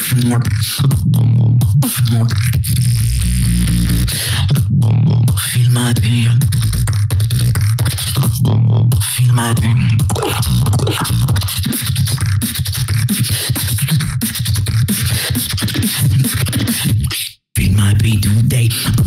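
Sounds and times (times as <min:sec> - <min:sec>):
person beatboxing: 0:00.0 - 0:19.0.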